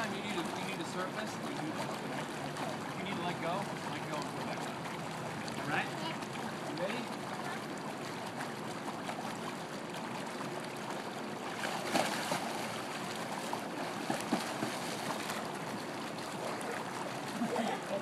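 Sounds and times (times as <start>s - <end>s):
pool water lapping and sloshing: 0.0s - 18.0s
small water splashes: 0.0s - 18.0s.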